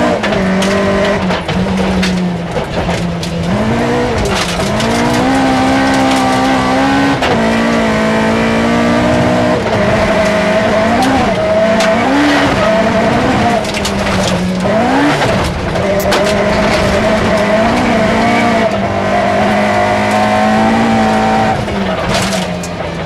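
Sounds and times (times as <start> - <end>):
gravel striking car: 0.0 - 23.0
rally car engine revving: 0.0 - 23.0.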